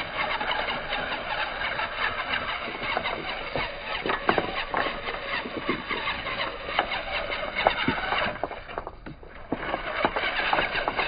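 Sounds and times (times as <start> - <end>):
small electric motors and gears: 0.0 - 11.0
stones and tyres clacking: 0.0 - 11.0.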